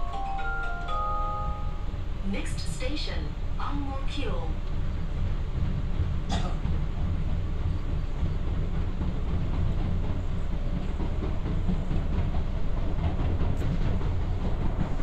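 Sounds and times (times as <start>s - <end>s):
train interior low rumble: 0.0s - 15.0s.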